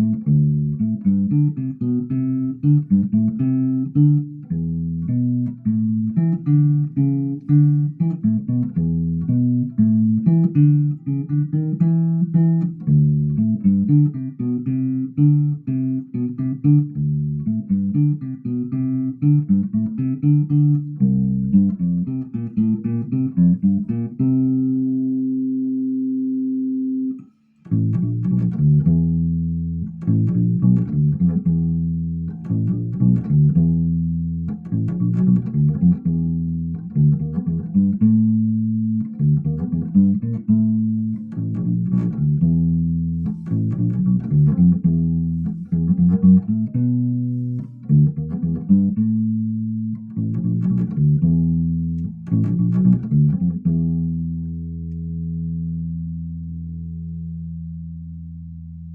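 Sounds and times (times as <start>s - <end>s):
electric bass melody: 0.0s - 58.9s.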